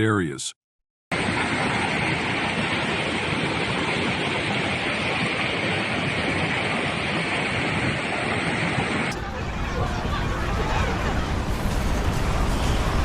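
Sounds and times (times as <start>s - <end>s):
floodwater rushing: 1.2s - 13.0s.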